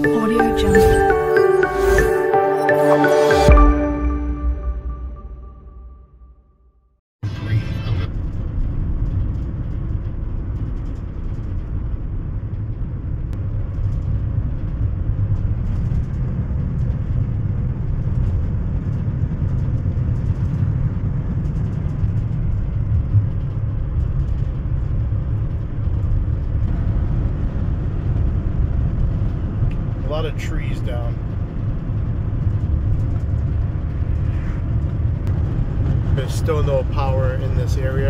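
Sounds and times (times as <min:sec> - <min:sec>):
vehicle road and engine rumble: 0:07.3 - 0:38.0.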